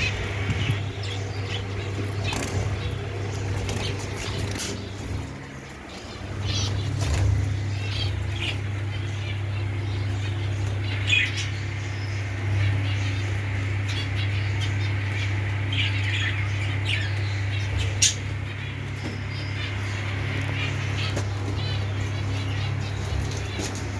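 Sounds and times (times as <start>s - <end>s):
lovebirds chirping and squawking: 0.0s - 23.9s
steady low hum: 0.0s - 23.9s.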